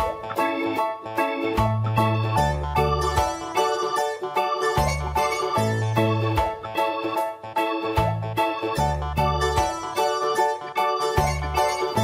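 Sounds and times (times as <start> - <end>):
background music with even beat: 0.0 - 12.0.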